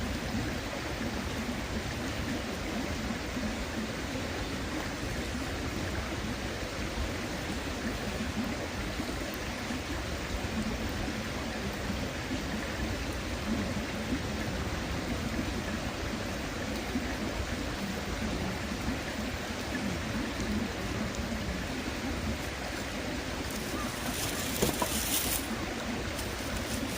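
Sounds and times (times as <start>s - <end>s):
river water babbling: 0.0s - 26.9s.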